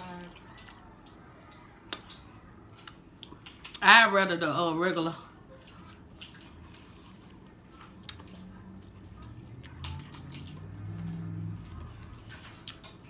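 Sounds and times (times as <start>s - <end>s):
wet chewing and mouth sounds: 0.0s - 3.8s, 5.2s - 13.0s.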